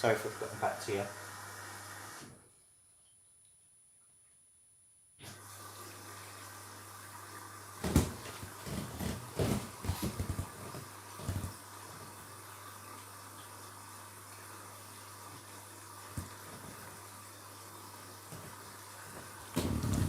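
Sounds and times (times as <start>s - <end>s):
washing machine filling with water: 0.0s - 2.4s, 5.2s - 20.0s.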